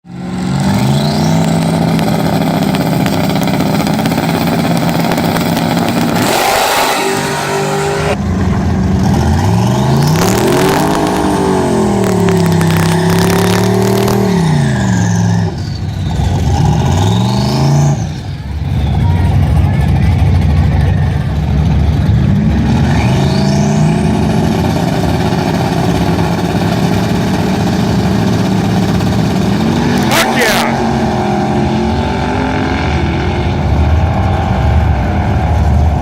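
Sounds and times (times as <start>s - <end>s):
car engine revving: 0.1s - 36.0s.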